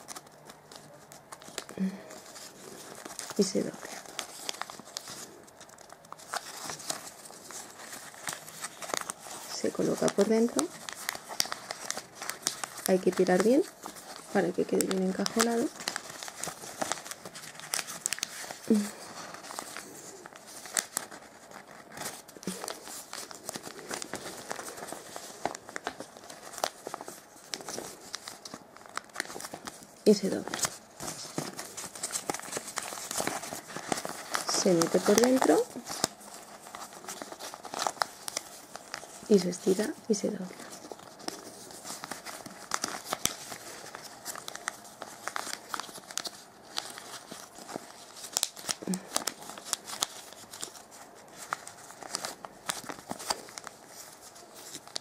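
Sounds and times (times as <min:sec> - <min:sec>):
paper rustling and crinkling: 0:00.0 - 0:55.0.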